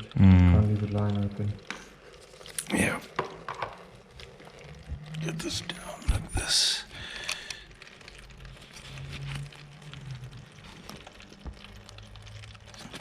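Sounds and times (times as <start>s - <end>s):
liquid trickling into a container: 0.0s - 13.0s.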